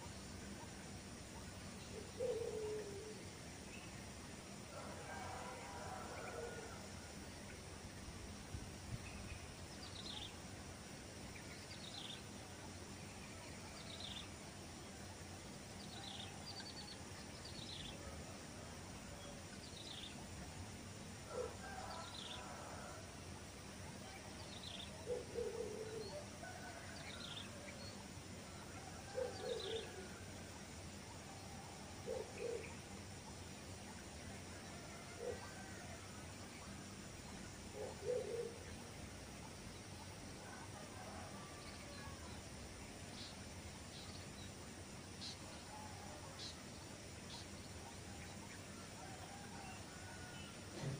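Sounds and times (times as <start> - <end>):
rural background hiss: 0.0 - 50.9.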